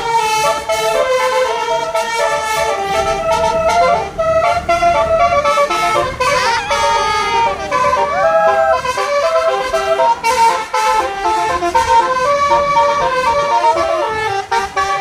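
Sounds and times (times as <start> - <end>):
bus multi-tone horn tune: 0.0 - 15.0.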